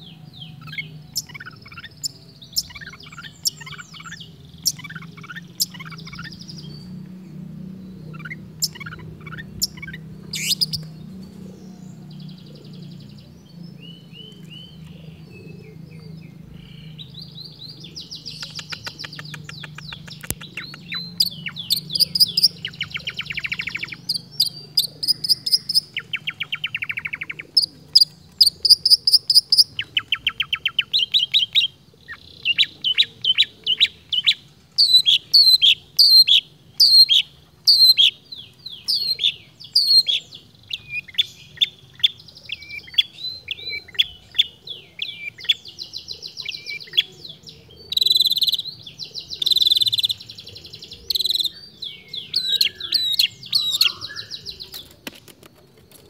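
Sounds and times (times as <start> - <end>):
bird singing mimicked calls: 0.0 - 7.1, 8.0 - 11.0, 13.8 - 55.0.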